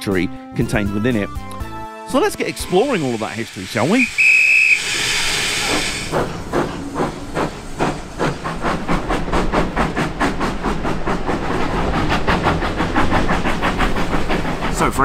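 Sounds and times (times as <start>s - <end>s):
steam locomotive exhaust chuffs: 2.2s - 15.0s
steady hiss of steam: 2.4s - 15.0s.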